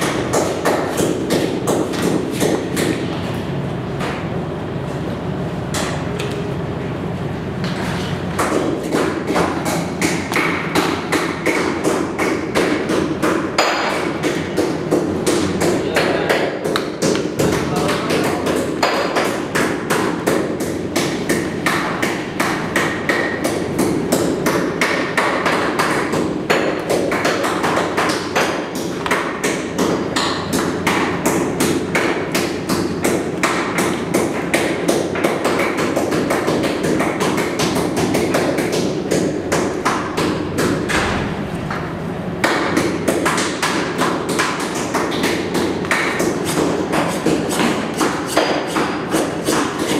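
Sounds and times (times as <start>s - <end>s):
blades chopping meat and bone: 0.0s - 3.1s, 8.4s - 41.2s, 42.4s - 49.9s.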